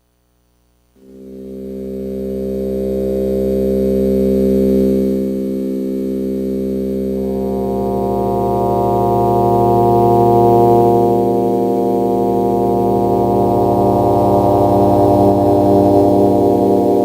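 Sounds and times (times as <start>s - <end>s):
synthesizer drone chord: 1.0s - 17.0s.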